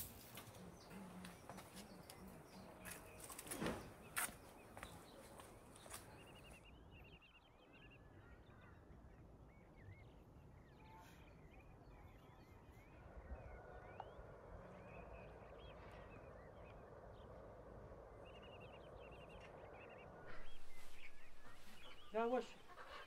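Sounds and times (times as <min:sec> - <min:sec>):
small birds chirping and trilling: 0:00.0 - 0:23.0
soft background rush: 0:00.0 - 0:23.0.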